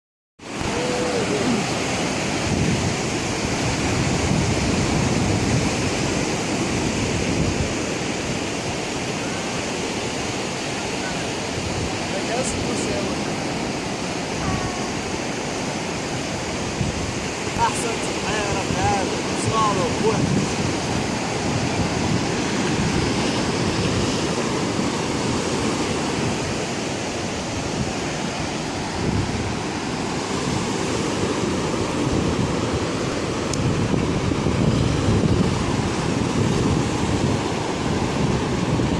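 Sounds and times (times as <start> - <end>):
ocean surf washing onto beach: 0.4 - 38.9
wind rumbling on microphone: 0.4 - 38.9.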